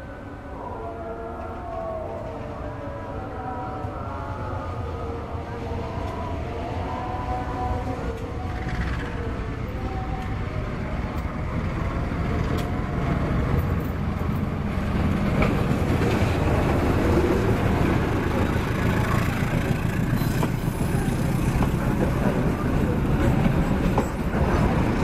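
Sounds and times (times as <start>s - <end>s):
diesel locomotive engine rumble: 0.0s - 25.0s
train carriages rolling on rails: 1.3s - 25.0s.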